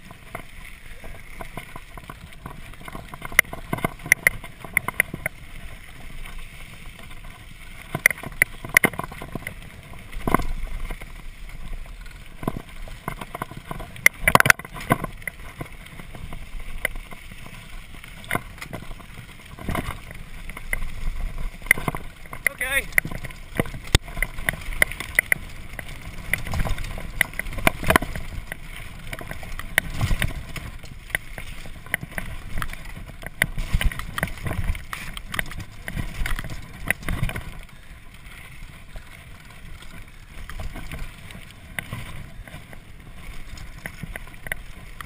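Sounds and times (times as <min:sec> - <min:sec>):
bike clicking and rattling: 0:00.0 - 0:45.0
tyres rumbling on gravel: 0:00.0 - 0:45.0.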